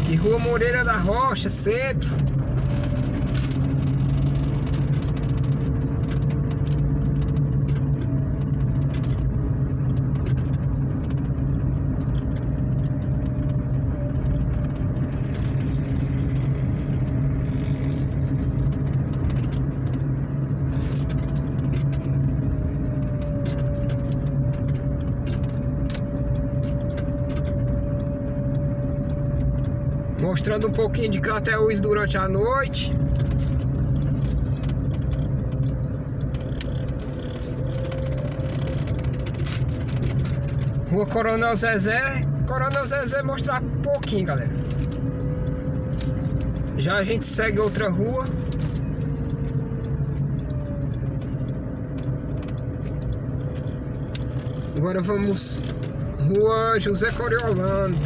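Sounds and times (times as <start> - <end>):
car engine and road hum: 0.0 - 58.0.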